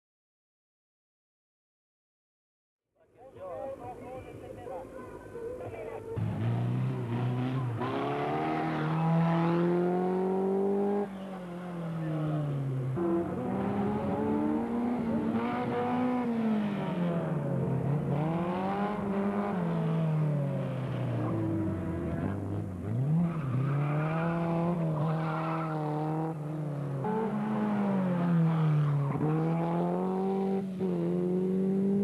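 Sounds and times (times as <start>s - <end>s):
race car engine revving: 6.2s - 32.0s.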